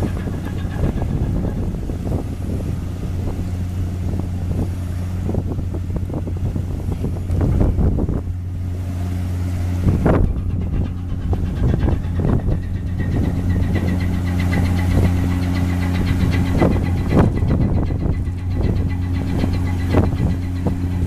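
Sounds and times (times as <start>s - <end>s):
large engine humming: 0.0s - 21.0s.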